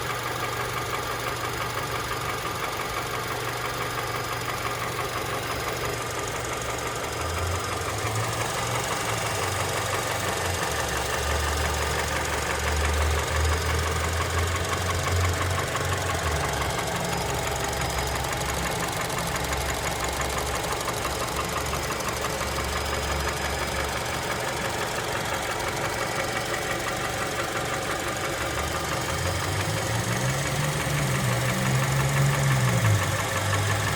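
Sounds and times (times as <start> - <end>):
car engine knocking: 0.0 - 33.9.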